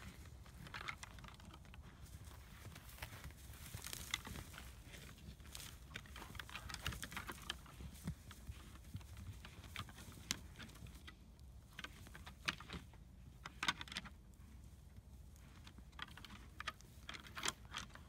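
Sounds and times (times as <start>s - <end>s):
hooves scuffling through dry grass: 0.0s - 18.0s.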